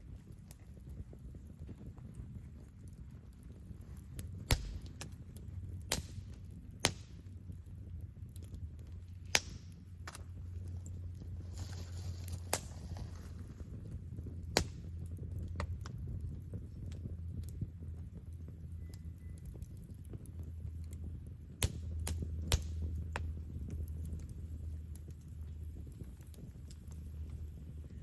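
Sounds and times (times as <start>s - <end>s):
burning wood popping: 0.0s - 28.0s
campfire crackling: 0.0s - 28.0s.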